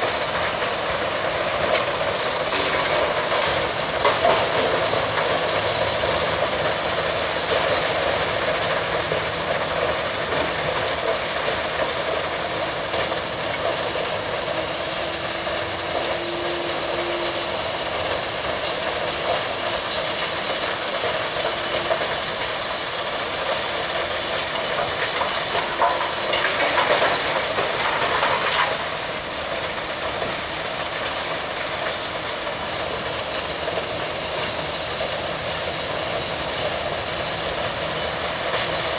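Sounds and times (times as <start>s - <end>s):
vehicle rumble and rattle: 0.0s - 38.9s.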